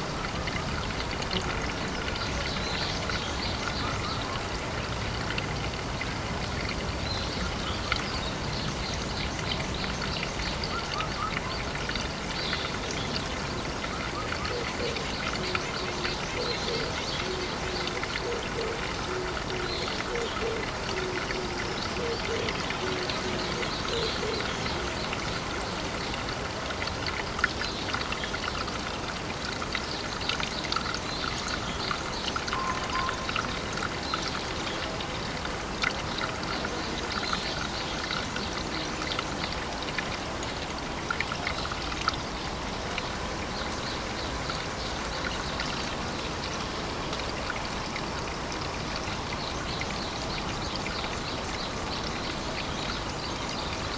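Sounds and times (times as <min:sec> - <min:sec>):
pond water trickling and bubbling: 0:00.0 - 0:53.9.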